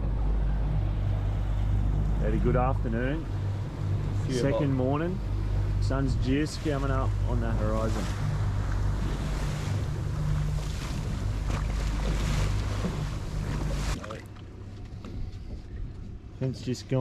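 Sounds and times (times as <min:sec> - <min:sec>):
water rushing: 0:00.0 - 0:14.6
boat motor humming: 0:00.0 - 0:17.0
wind buffeting microphone: 0:00.0 - 0:17.0.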